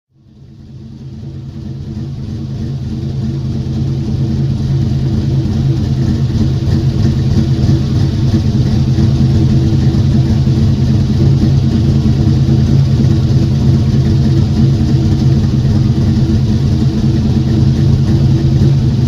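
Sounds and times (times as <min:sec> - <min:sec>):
car engine humming: 0:00.3 - 0:19.0.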